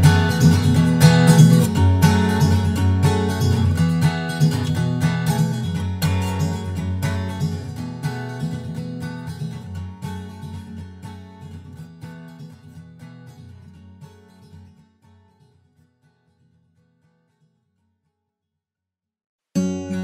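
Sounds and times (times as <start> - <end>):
acoustic guitar music: 0.0 - 18.2, 19.5 - 20.0.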